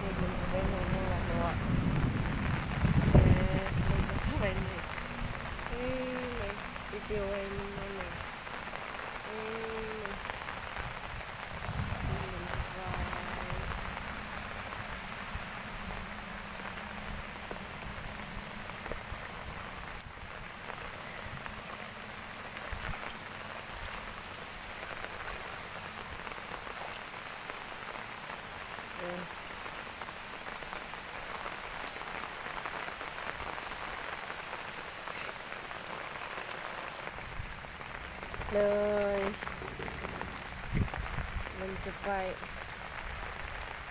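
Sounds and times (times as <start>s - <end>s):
heavy rain falling: 0.0s - 43.9s
sharp water drips: 0.0s - 43.9s.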